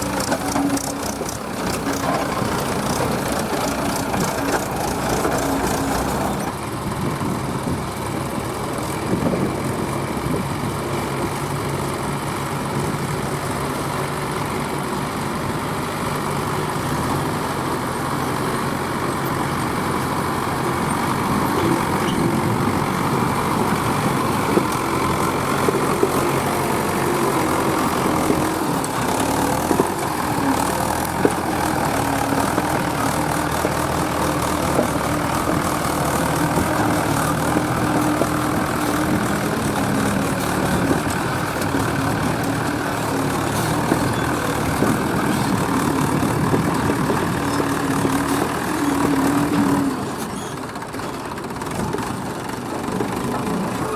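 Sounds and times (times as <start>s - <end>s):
large diesel engine running: 0.0s - 53.9s.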